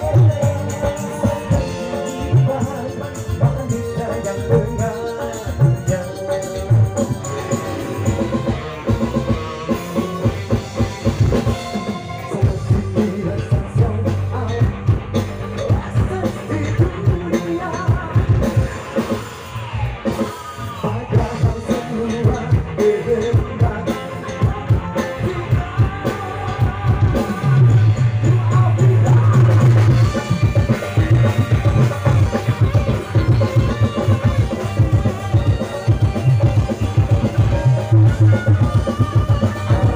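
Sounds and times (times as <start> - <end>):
bass guitar: 0.0 - 39.9
drums: 0.0 - 39.9
electric guitar: 0.0 - 39.9
keyboard: 0.0 - 39.9
man singing: 0.0 - 39.9.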